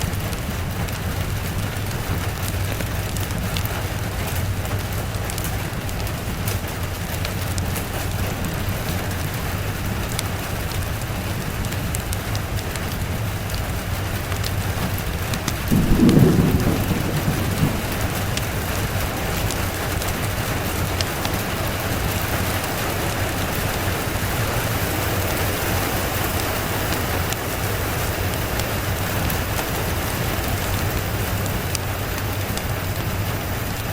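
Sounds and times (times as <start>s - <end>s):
rain falling: 0.0s - 33.9s
thunder rumble: 0.0s - 33.9s.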